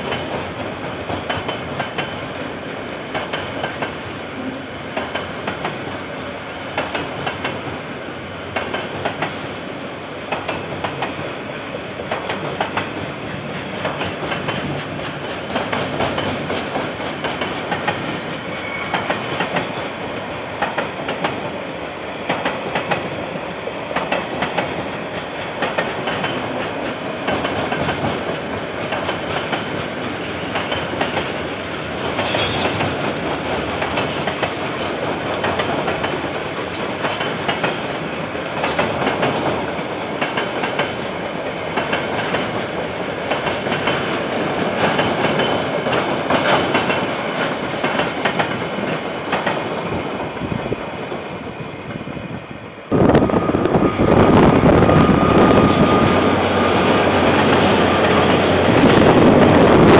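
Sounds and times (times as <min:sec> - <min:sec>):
train wheels clicking over rail joints: 0:00.0 - 0:02.3, 0:03.0 - 0:04.1, 0:04.9 - 0:07.8, 0:08.5 - 0:09.6, 0:10.2 - 0:11.3, 0:12.0 - 0:21.6, 0:22.2 - 0:51.3, 0:53.6 - 0:59.9
train rolling rumble: 0:00.0 - 0:59.9.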